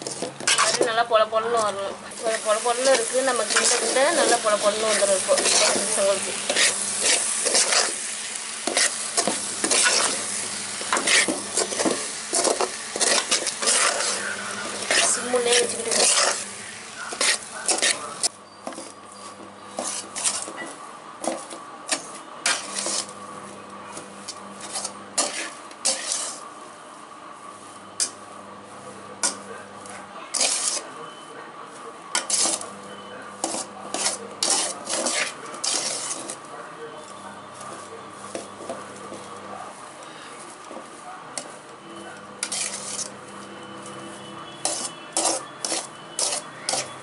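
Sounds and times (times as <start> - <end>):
metal ladle scraping a pan: 0.0 - 0.9, 2.1 - 23.2, 23.9 - 26.5, 30.3 - 31.2, 32.1 - 39.4, 40.1 - 47.0.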